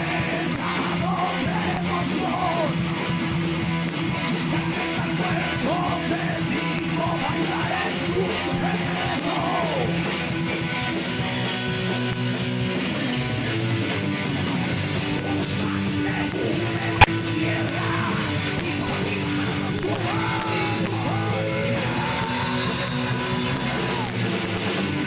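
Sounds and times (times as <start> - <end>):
distorted electric guitar: 0.0 - 25.0
drums with a steady beat: 0.0 - 25.0.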